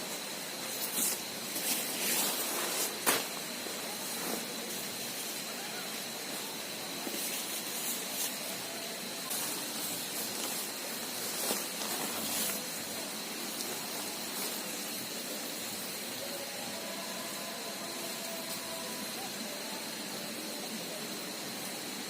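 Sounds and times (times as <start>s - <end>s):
thin high steady tone: 0.0s - 22.0s.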